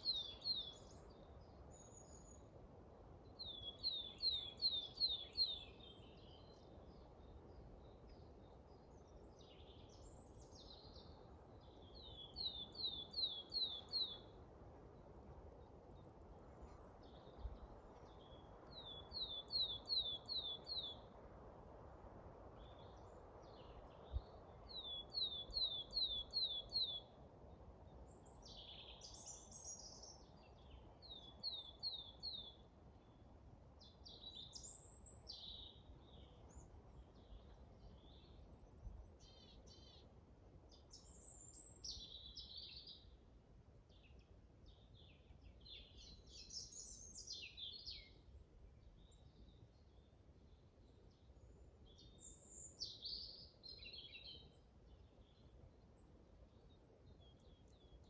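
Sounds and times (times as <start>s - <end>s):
songbirds singing and chirping: 0.0s - 2.5s, 3.3s - 14.4s, 17.0s - 21.2s, 22.6s - 33.2s, 33.8s - 43.2s, 43.8s - 58.0s.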